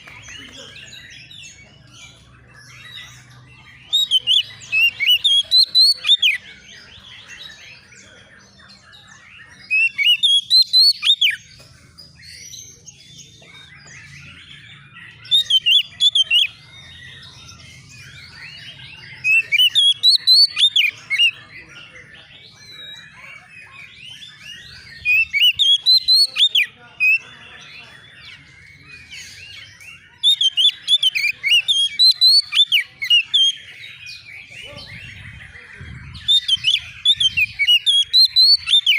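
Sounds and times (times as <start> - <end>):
bird singing whistled notes: 1.4 - 11.5, 12.3 - 21.4, 22.6 - 27.3, 28.2 - 38.9.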